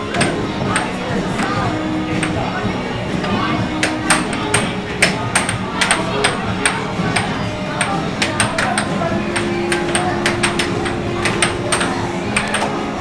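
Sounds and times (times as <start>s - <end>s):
air hockey puck clacking: 0.0s - 13.0s.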